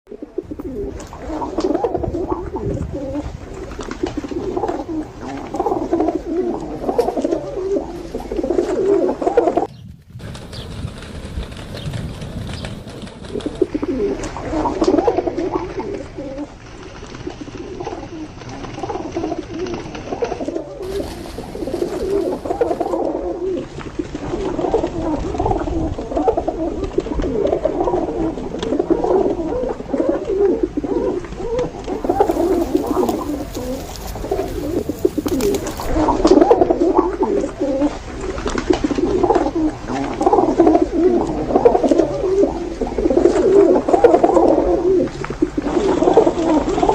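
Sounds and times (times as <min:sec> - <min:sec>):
pigeons cooing: 0:00.1 - 0:09.8, 0:11.5 - 0:46.9.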